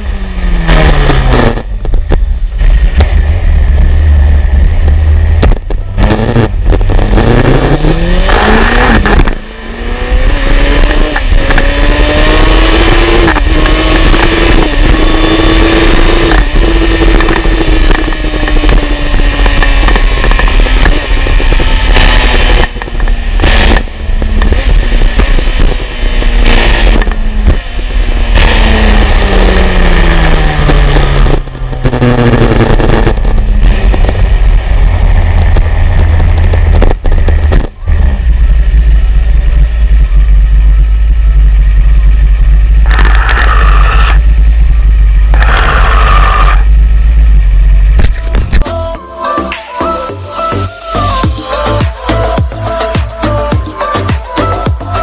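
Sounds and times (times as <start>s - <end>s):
wind rumble on microphone: 0.0s - 48.7s.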